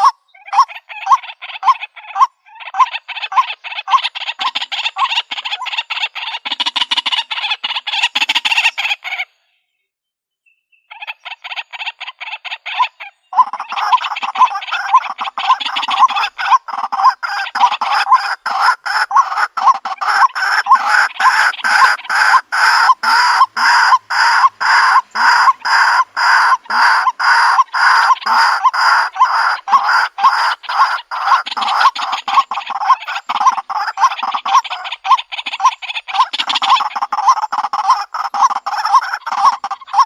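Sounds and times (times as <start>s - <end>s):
bird calling harsh repeated notes: 0.0s - 9.5s, 10.6s - 40.0s.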